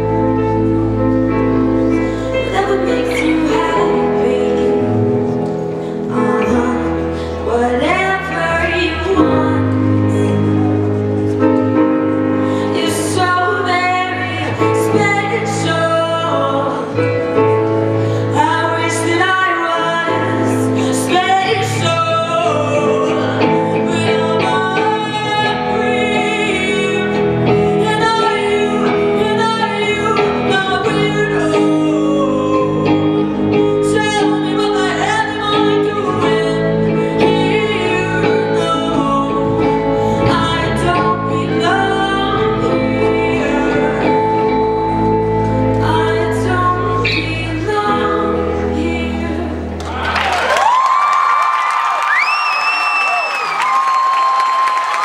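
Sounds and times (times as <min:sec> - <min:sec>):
woman singing into a microphone: 0:00.0 - 0:50.0
bass guitar: 0:00.0 - 0:50.8
electric guitar: 0:00.0 - 0:55.0.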